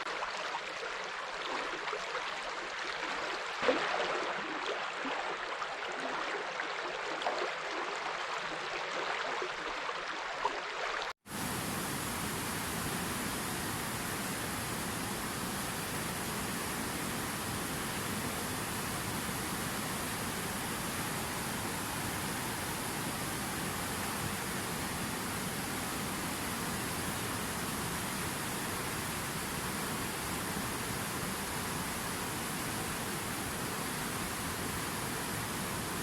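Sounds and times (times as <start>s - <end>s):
river water rushing: 1.3s - 36.0s.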